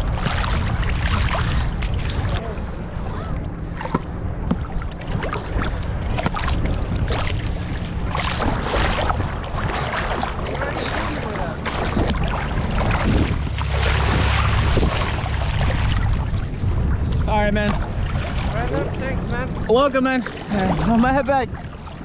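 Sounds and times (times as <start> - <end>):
surf washing: 0.0 - 22.0
wind rumbling on microphone: 0.0 - 22.0.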